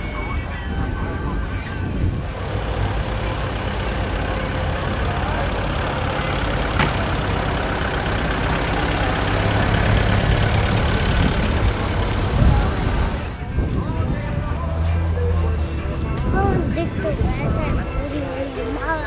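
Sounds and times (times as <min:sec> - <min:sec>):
car engine running low speed: 0:01.6 - 0:18.7.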